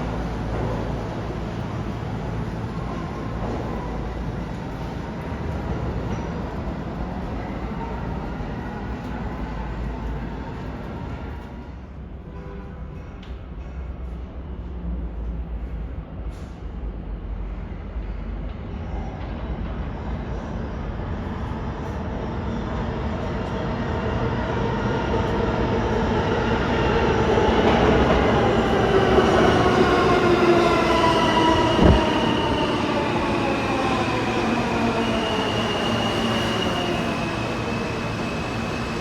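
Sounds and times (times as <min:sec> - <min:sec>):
subway train pulling in: 0:00.0 - 0:39.0.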